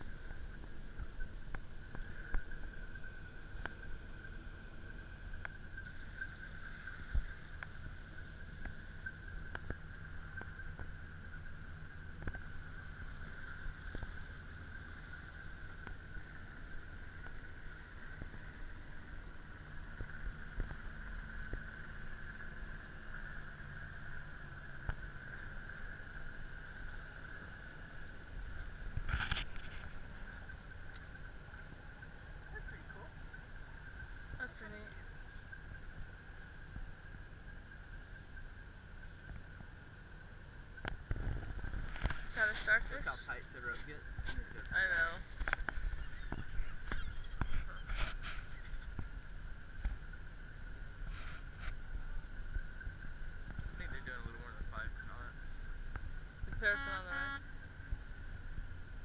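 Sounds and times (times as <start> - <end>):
boat engine drone: 0.0 - 59.0.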